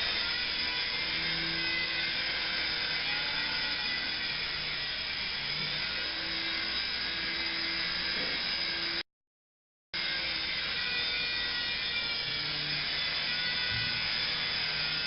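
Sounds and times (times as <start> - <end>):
toy helicopter rotors whirring: 0.0 - 9.0, 10.0 - 15.0.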